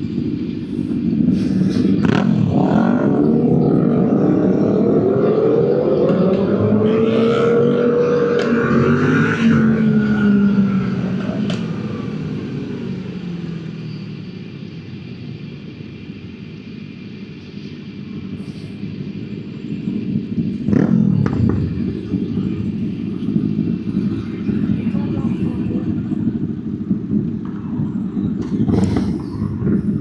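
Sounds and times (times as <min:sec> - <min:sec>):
road rumble: 0:00.0 - 0:30.0
vehicle engine: 0:00.0 - 0:30.0.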